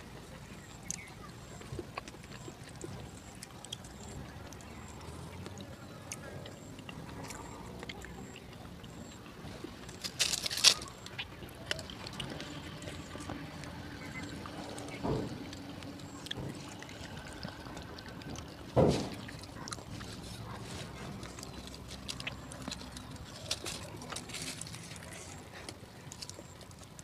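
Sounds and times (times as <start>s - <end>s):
crisp crunch: 0.0s - 27.0s
person chewing: 0.0s - 27.0s.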